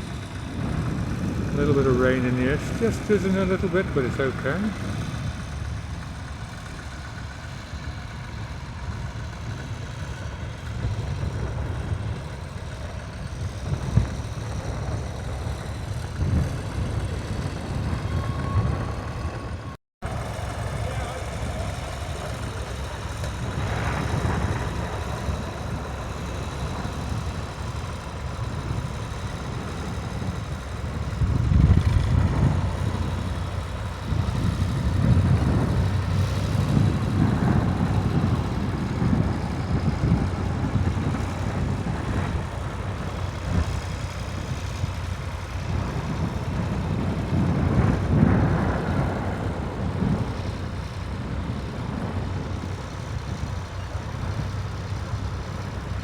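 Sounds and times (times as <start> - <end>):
tractor engines rumbling: 0.0 - 56.0.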